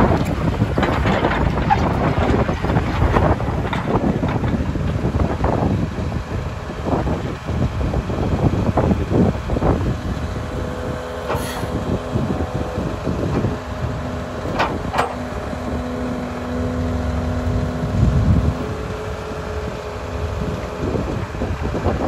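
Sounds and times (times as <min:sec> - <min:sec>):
excavator diesel engine under load: 0:00.0 - 0:22.0.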